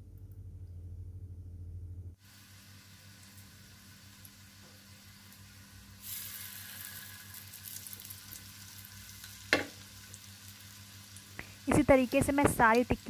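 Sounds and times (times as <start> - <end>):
oil sizzling in a pan: 2.2 - 13.0.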